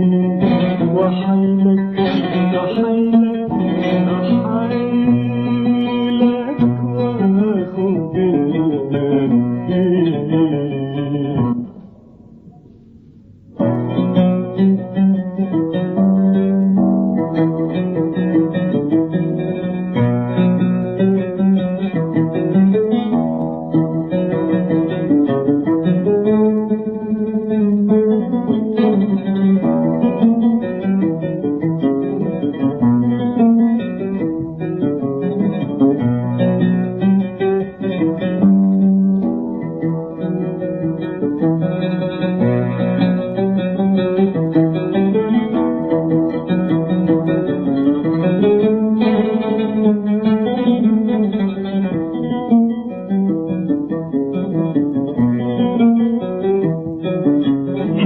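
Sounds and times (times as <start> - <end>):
oud playing solo: 0.0 - 58.0.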